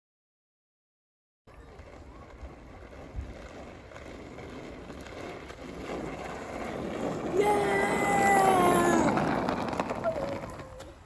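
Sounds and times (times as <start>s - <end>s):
wind buffeting microphone: 1.6s - 11.0s.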